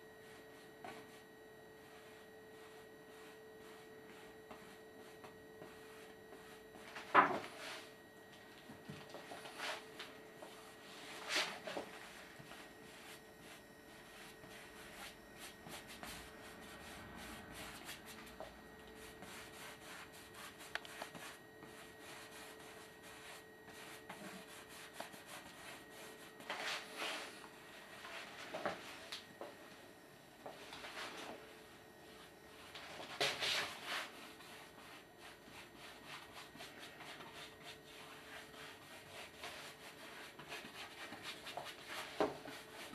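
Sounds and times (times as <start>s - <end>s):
paintbrush brushing on canvas: 1.8s - 7.9s, 9.1s - 29.0s, 32.0s - 42.9s.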